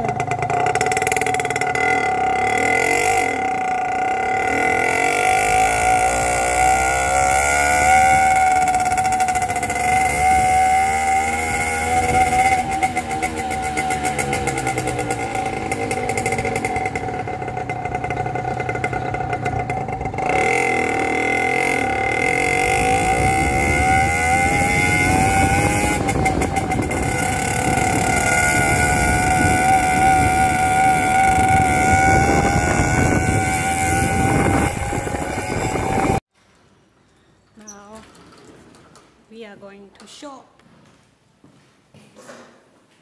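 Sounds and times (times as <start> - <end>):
motorbike engine running: 0.0 - 36.2.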